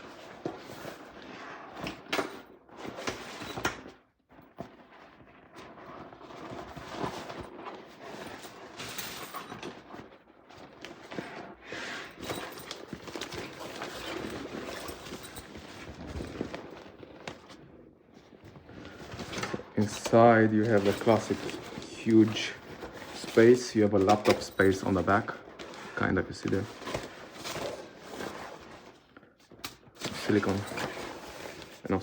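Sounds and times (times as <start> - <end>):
backpack fabric rustling: 0.0 - 32.0.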